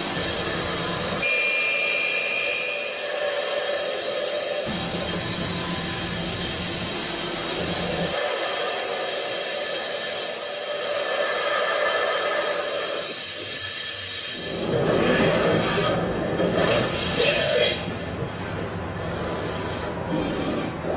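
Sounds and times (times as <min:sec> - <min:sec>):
machining centre milling whir: 0:00.0 - 0:20.9.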